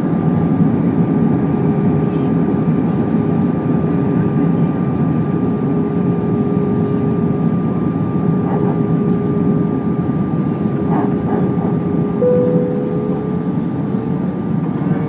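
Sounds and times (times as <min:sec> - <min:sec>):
airplane cabin engine rush: 0:00.0 - 0:15.0
constant hum-like tone: 0:00.0 - 0:15.0.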